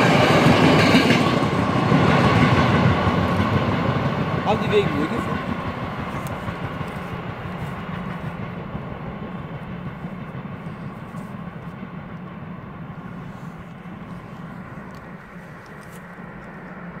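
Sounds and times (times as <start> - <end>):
steam train rumbling: 0.0 - 17.0.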